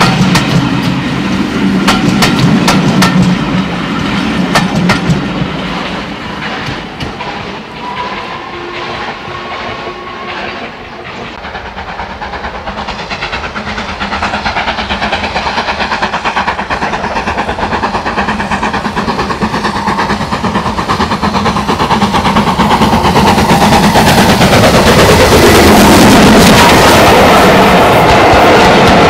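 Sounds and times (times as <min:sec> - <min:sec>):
steam locomotive chuffing: 0:00.0 - 0:29.0.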